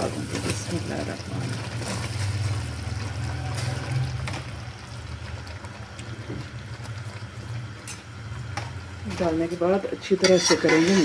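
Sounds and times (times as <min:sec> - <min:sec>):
syrup boiling in a pot: 0:00.0 - 0:11.0.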